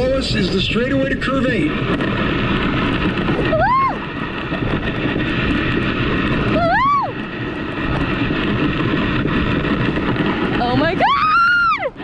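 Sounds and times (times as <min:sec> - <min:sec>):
sled wheels rumbling on rails: 0:00.0 - 0:12.0
wind on microphone: 0:00.0 - 0:12.0.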